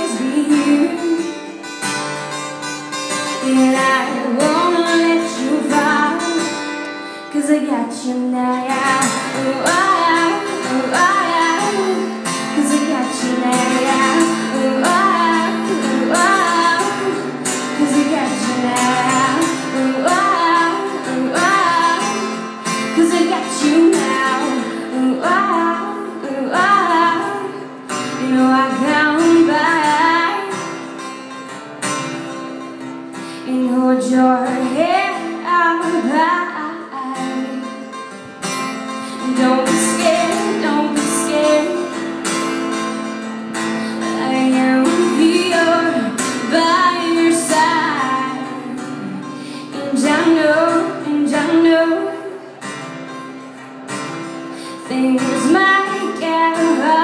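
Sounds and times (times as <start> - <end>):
woman singing: 0.0 - 1.7, 3.1 - 30.8, 33.4 - 38.0, 38.9 - 42.4, 43.8 - 52.6, 54.6 - 57.0
acoustic guitar: 0.0 - 57.0.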